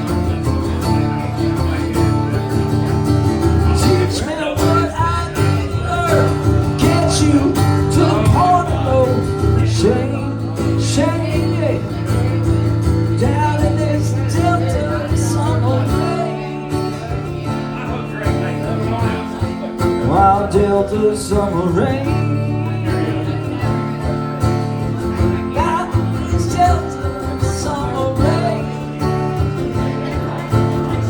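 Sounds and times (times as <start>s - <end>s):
country music guitars and bass: 0.0s - 31.0s.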